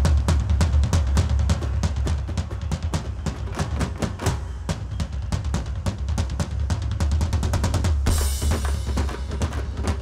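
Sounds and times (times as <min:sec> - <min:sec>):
drum kit fast beat: 0:00.0 - 0:10.0.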